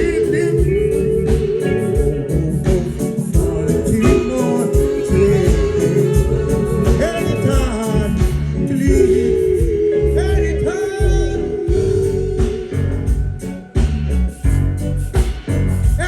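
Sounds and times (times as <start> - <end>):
live reggae band playing: 0.0 - 16.0.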